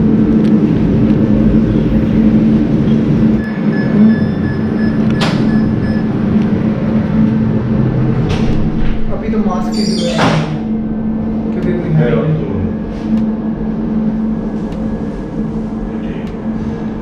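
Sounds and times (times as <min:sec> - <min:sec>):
lift low mechanical hum: 0:00.0 - 0:17.0.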